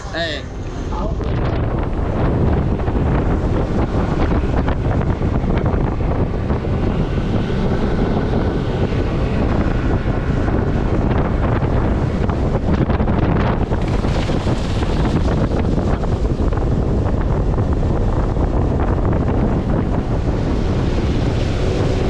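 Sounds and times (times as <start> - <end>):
boat motor: 0.0 - 22.0
rushing wind and water: 0.0 - 22.0
wind buffeting microphone: 0.0 - 22.0.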